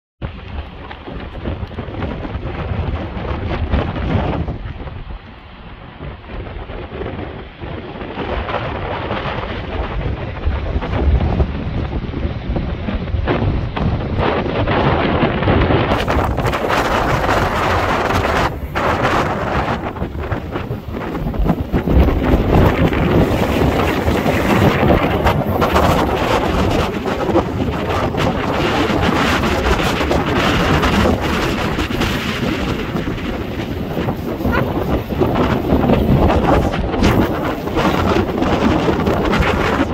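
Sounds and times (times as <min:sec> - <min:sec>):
choppy lake waves: 0:00.2 - 0:39.9
wind buffeting microphone: 0:00.2 - 0:39.9.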